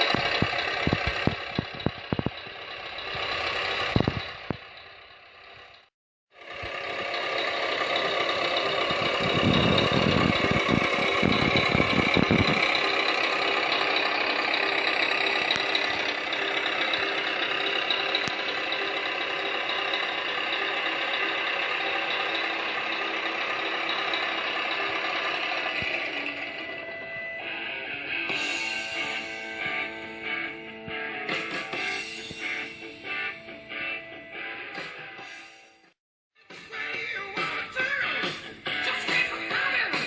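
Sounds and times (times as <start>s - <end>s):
model truck engine rattling: 0.0s - 34.0s.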